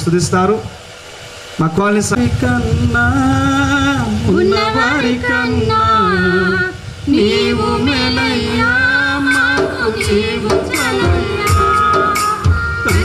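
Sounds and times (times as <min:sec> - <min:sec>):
man and woman singing: 0:02.2 - 0:13.0.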